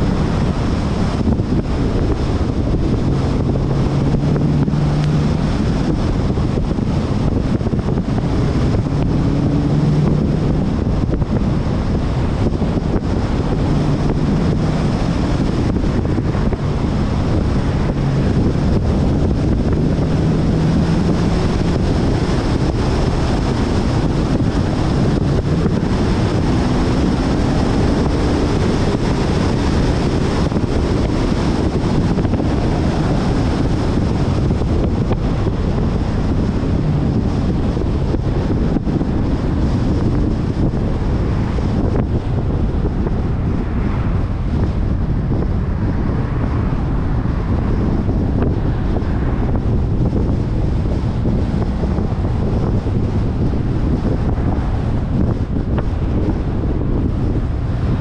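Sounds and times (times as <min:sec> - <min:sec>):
faint car engine running: 0:00.0 - 0:58.0
wind buffeting microphone: 0:00.0 - 0:58.0.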